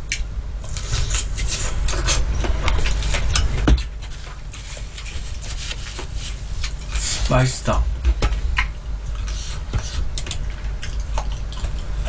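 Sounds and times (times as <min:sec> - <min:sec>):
chewing crunching fruit: 0:00.6 - 0:07.2, 0:08.4 - 0:12.0.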